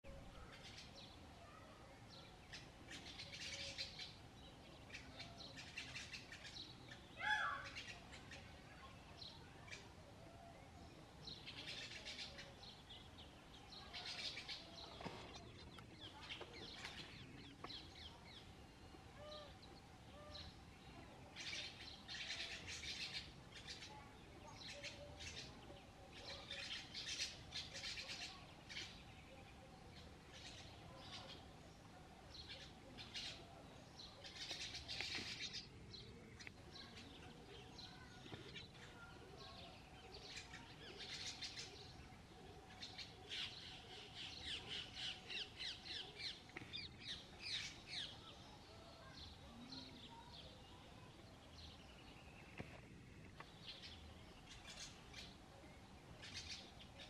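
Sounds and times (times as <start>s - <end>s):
birds twittering: 0.1s - 9.9s, 10.8s - 57.0s.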